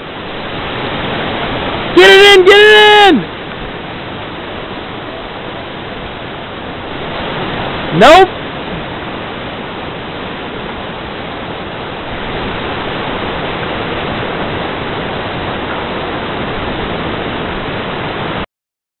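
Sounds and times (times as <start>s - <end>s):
river rapids rushing: 0.0s - 18.4s.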